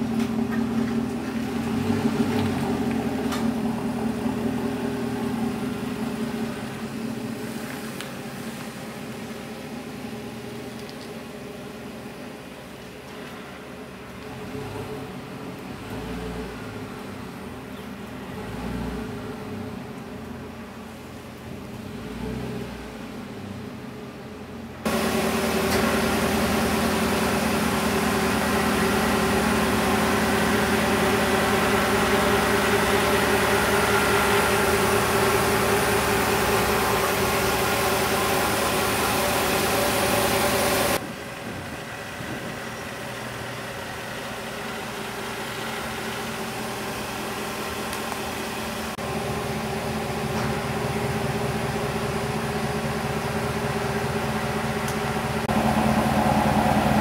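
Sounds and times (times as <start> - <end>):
truck engine idling: 0.0 - 22.0, 22.9 - 57.0.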